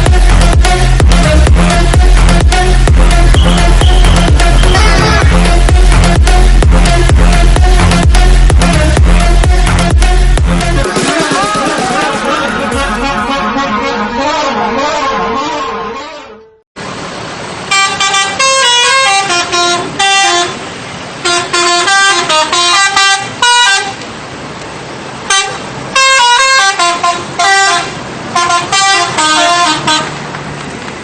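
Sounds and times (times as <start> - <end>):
multi-tone musical bus horn: 0.0 - 11.1, 11.9 - 16.6, 17.7 - 24.0, 25.2 - 30.2
traffic noise: 0.0 - 31.0.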